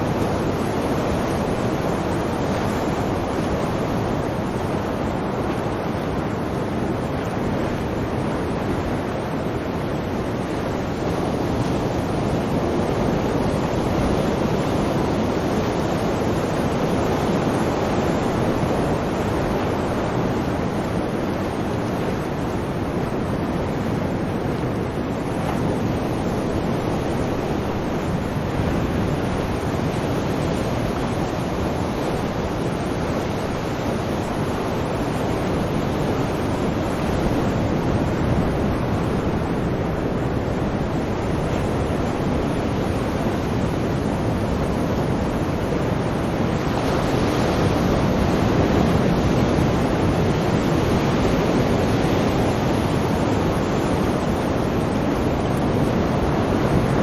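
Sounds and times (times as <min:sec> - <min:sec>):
sea surf washing: 0:00.0 - 0:57.0.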